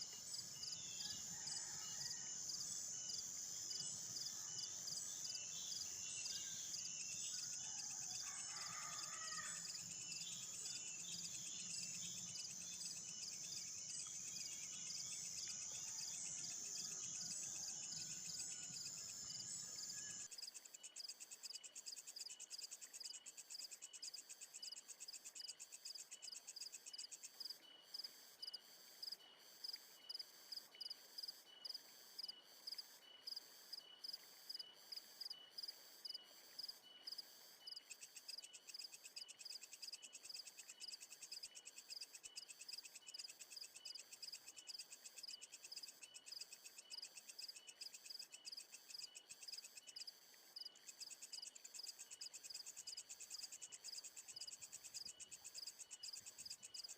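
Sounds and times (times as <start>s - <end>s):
crickets chirping: 0.0s - 56.9s
faint insect chirps: 0.0s - 56.9s.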